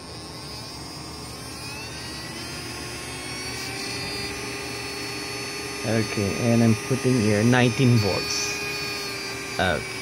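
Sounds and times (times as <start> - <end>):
small motor whine rising: 0.0 - 10.0.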